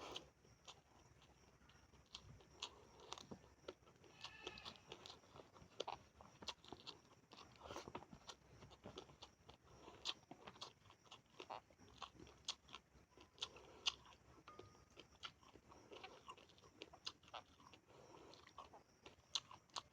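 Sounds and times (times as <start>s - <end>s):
person chewing and crunching: 0.0s - 19.9s.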